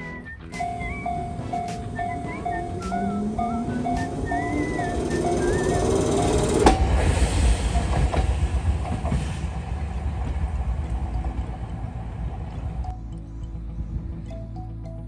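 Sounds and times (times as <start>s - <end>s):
train rumbling on rails: 0.7s - 12.9s.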